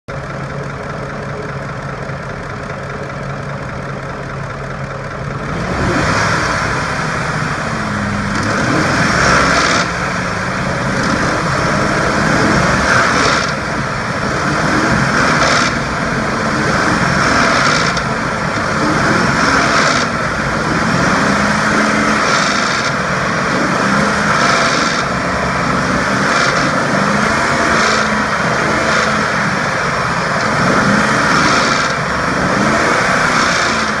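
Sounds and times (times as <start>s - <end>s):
engine rattling: 0.0s - 34.0s
truck engine revving: 0.1s - 34.0s.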